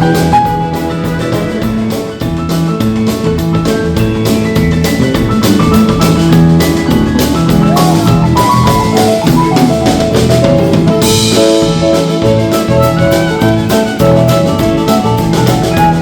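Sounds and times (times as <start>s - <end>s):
drum kit beat: 0.0s - 16.0s
live band playing: 0.0s - 16.0s.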